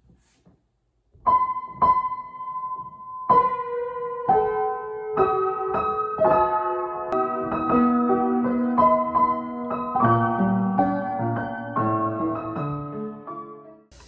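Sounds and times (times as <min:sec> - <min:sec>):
piano music: 0:01.2 - 0:14.0.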